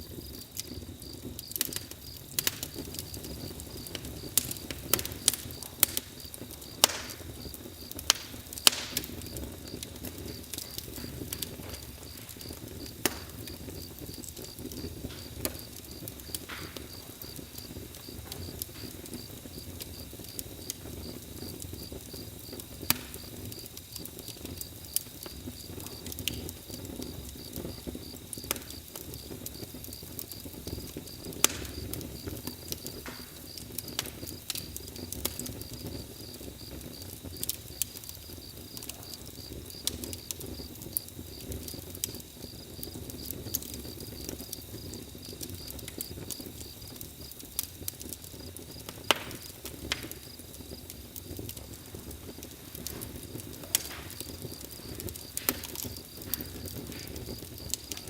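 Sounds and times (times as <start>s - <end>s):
campfire crackling: 0.0s - 58.0s
cricket chirping: 0.0s - 58.0s.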